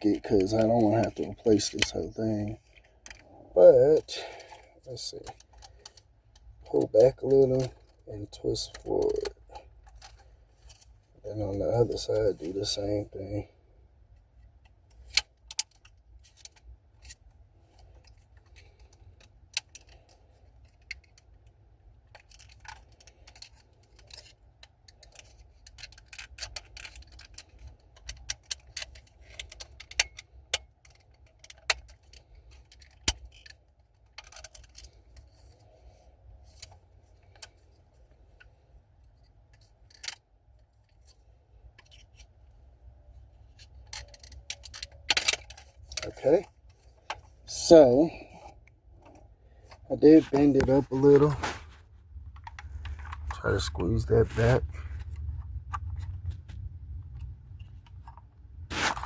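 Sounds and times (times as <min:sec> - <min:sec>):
plastic clicks and scrapes: 0:00.1 - 0:03.4, 0:04.0 - 0:12.5, 0:14.3 - 0:59.0.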